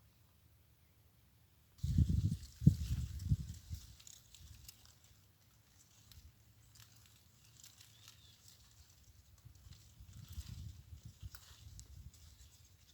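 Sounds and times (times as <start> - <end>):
faint ticks and patter of birds: 0.0 - 12.9.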